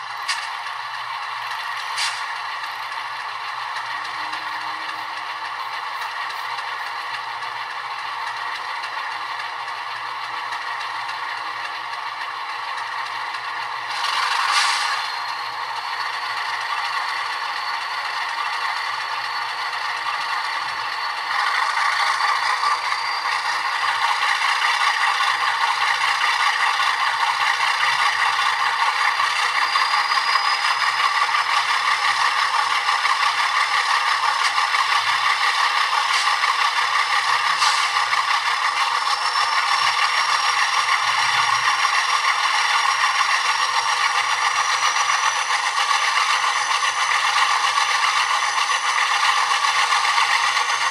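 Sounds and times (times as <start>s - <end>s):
model locomotive diesel engine sound: 0.0s - 50.9s.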